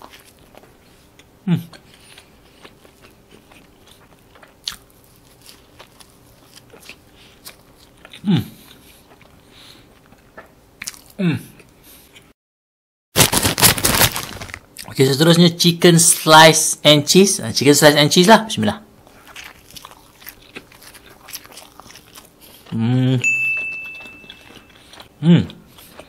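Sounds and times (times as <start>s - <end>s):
person chewing sandwich: 0.0s - 12.3s, 13.2s - 15.0s, 19.0s - 26.0s.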